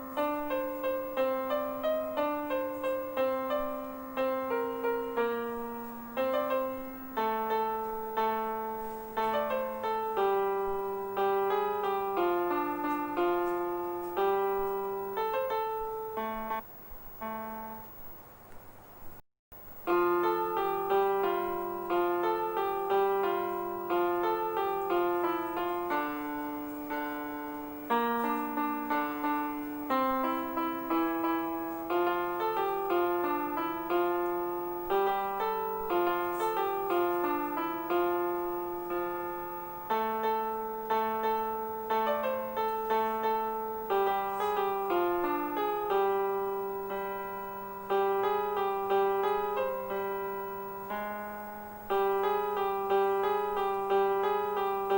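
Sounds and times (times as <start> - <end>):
gentle piano melody: 0.0 - 18.6, 19.6 - 54.9.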